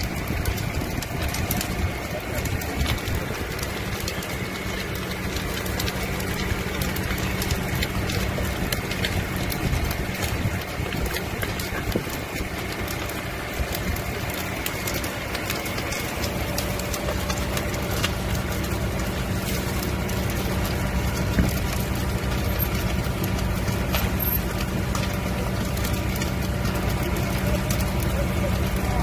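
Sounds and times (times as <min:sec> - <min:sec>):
engine humming: 0:00.0 - 0:29.0
fire crackling and popping: 0:00.0 - 0:29.0.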